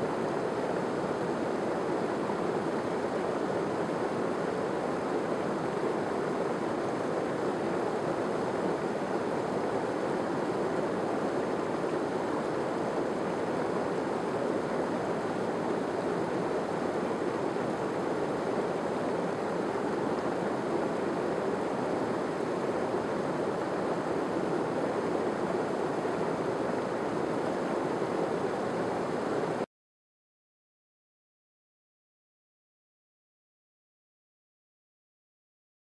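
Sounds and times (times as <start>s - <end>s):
stream rushing over rocks: 0.0s - 29.6s.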